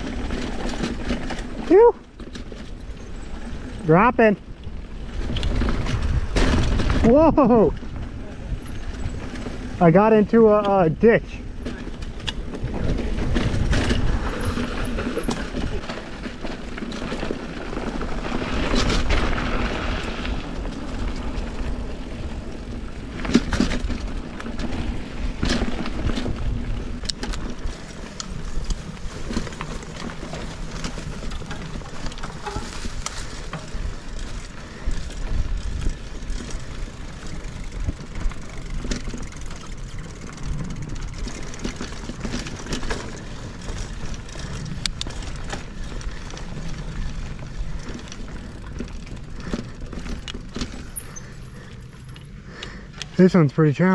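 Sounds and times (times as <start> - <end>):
bike clattering over bumps: 0.0 - 53.2
bike tyres rumbling on dirt: 0.0 - 53.9.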